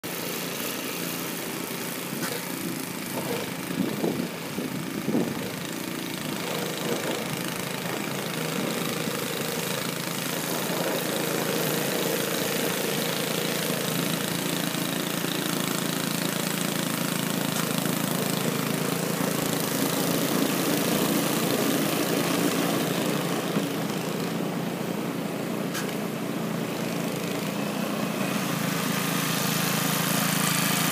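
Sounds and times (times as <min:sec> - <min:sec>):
snow blower engine running: 0:00.0 - 0:30.9.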